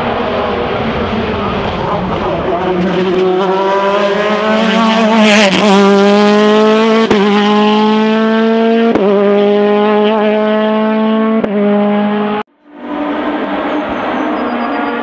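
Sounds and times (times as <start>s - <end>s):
race car accelerating and shifting gears: 0.0s - 15.0s.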